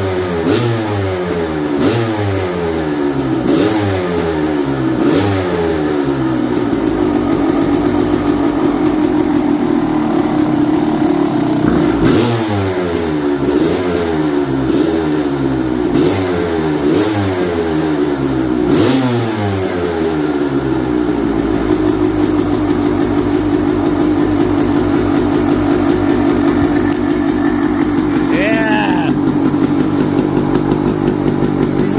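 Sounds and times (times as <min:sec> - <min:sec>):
motorcycle engine revving: 0:00.0 - 0:31.9
motorcycle engine idling: 0:02.7 - 0:18.7, 0:19.5 - 0:31.9.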